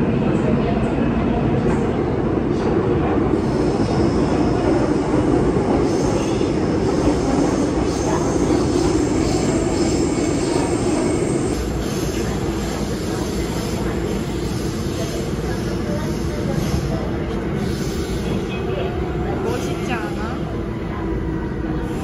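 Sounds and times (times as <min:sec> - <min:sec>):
subway train running: 0:00.0 - 0:22.0.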